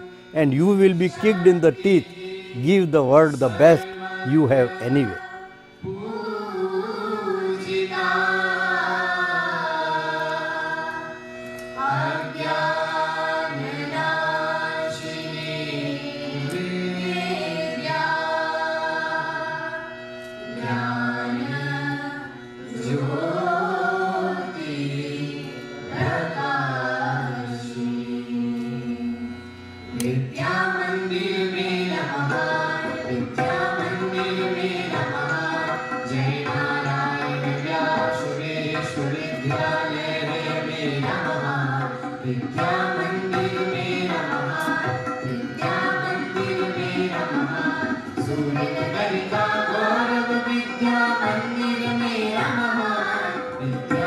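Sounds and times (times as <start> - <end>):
background music with singing: 0.0 - 54.0.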